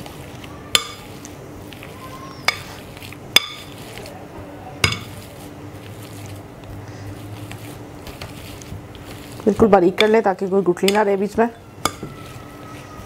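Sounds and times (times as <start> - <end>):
potato masher mashing potatoes: 0.0 - 13.0.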